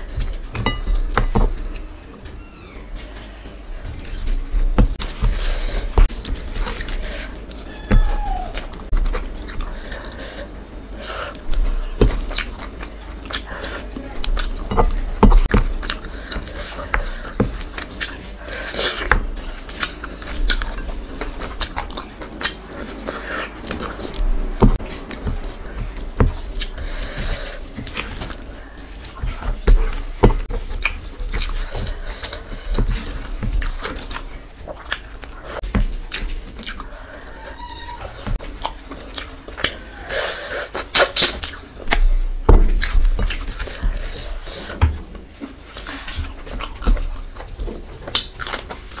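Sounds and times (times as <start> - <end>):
person chewing food: 0.0 - 2.3, 2.9 - 49.0.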